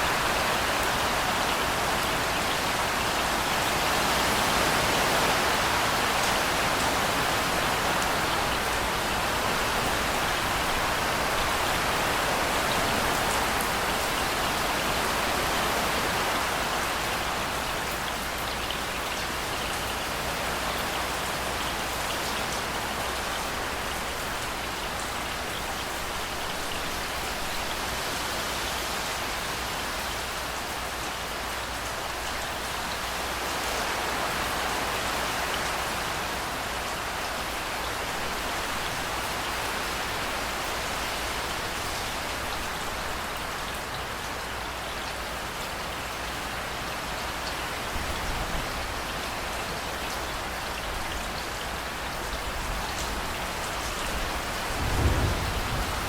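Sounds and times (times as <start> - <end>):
rain pouring down: 0.0 - 56.0.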